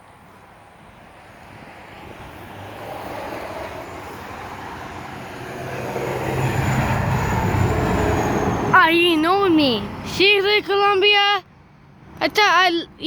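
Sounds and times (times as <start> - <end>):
truck engine and tyre noise: 0.0 - 13.0.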